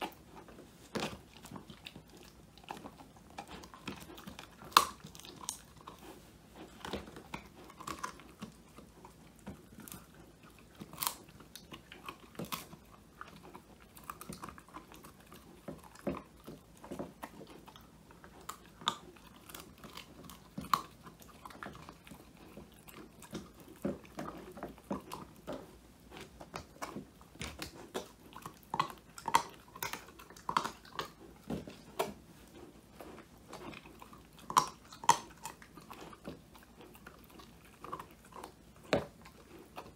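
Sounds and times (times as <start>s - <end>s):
puppy chewing and crunching: 0.0s - 39.9s.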